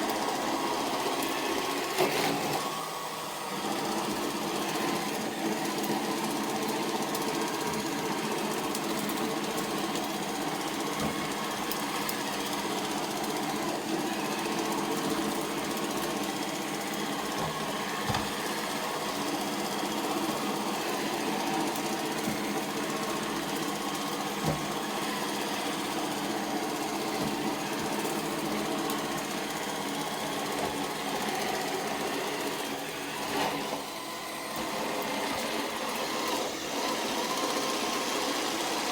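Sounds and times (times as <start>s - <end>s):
robot vacuum motor humming: 0.0s - 38.9s.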